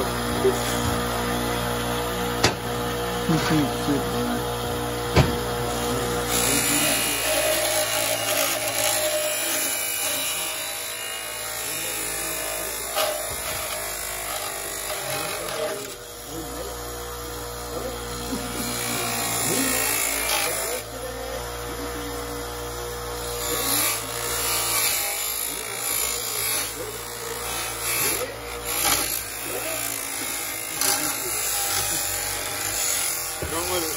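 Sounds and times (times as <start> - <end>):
bench grinder grinding metal: 0.0 - 33.9.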